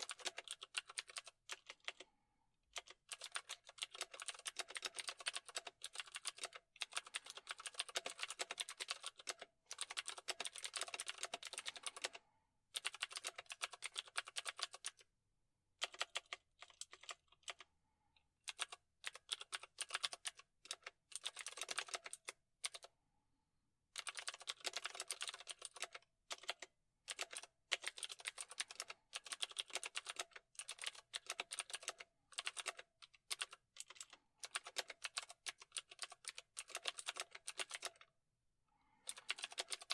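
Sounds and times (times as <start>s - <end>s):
typing on computer keyboard: 0.0s - 2.1s, 2.7s - 15.1s, 15.8s - 17.7s, 18.4s - 22.9s, 24.0s - 38.1s, 39.0s - 39.9s.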